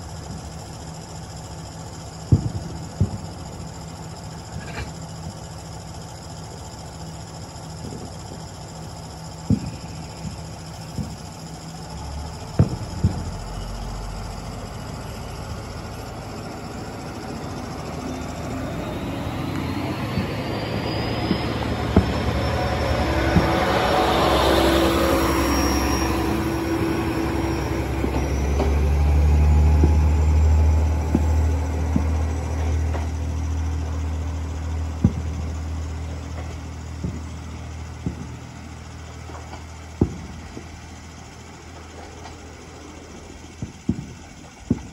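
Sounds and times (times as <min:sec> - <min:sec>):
diesel engine rumble: 0:00.0 - 0:44.9
thin rising whine: 0:00.0 - 0:44.9
train wheel noise: 0:00.0 - 0:44.9.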